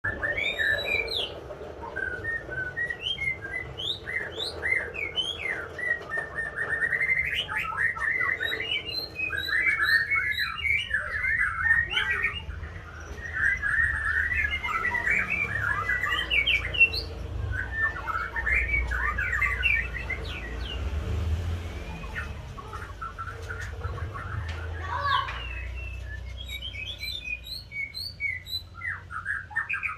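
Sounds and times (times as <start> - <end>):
bird singing and chirping: 0.0 - 29.9.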